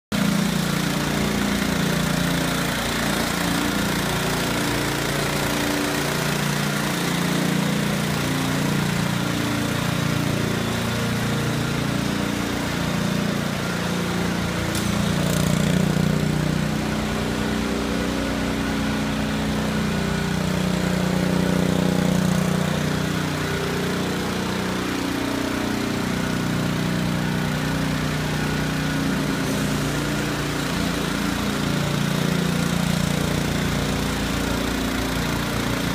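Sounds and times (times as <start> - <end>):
small engine running: 0.1 - 35.9.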